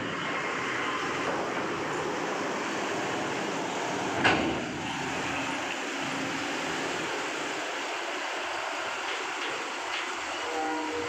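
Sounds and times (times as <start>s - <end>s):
bus engine running slowly: 0.0s - 11.0s.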